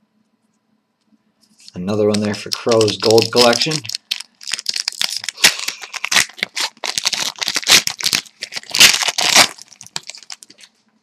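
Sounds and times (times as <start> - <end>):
plastic wrapper crinkling and tearing: 1.6 - 10.8.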